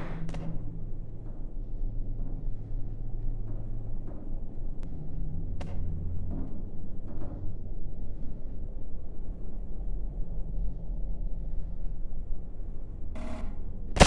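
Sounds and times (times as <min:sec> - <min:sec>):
low drum-like rumble: 0:00.0 - 0:14.0.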